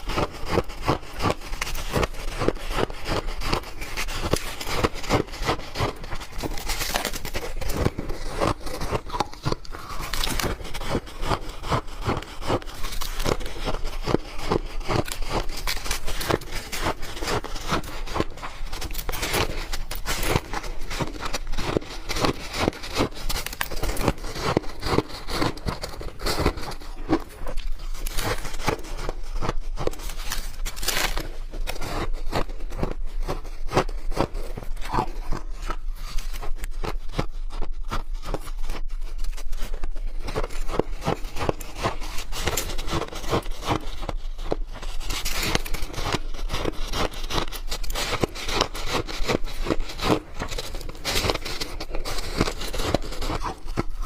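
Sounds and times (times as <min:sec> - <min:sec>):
ice being chewed and crunched: 0:00.0 - 0:54.0.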